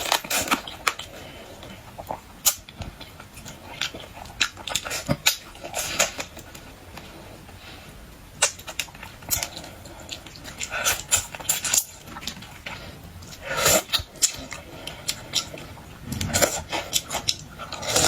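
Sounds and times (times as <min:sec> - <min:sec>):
chewing: 0:00.0 - 0:07.8, 0:08.4 - 0:18.0.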